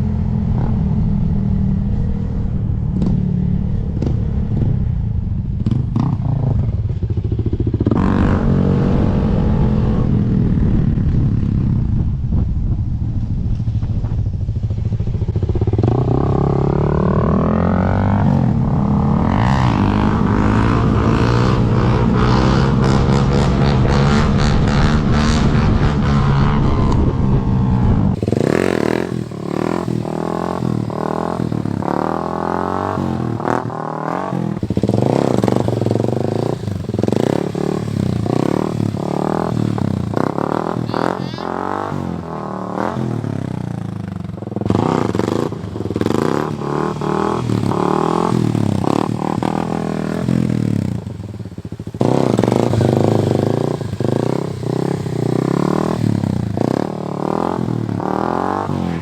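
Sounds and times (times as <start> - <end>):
dirt bike engine revving: 5.6 - 11.5, 15.1 - 59.0.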